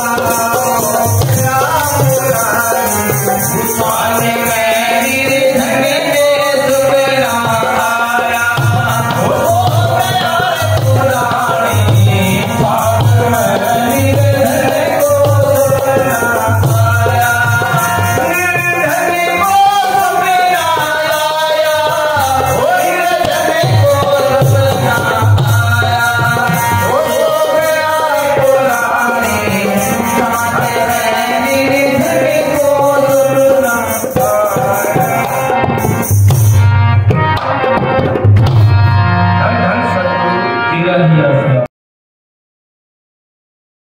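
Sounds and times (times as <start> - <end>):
man singing: 0.0 - 36.3, 37.2 - 41.7
harmonium: 0.0 - 41.7.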